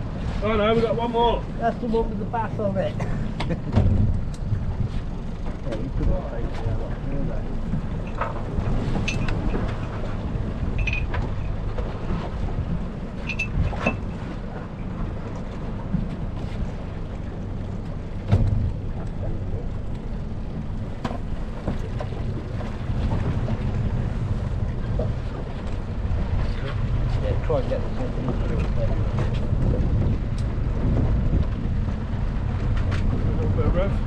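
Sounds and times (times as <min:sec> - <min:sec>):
outboard motor running: 0:00.0 - 0:34.0
wind on microphone: 0:03.1 - 0:34.0.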